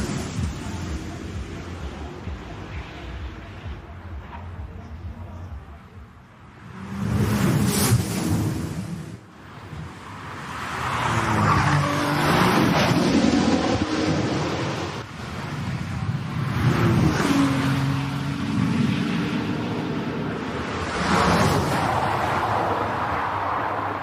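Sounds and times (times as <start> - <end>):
racing car engine at full throttle: 0.0 - 24.0.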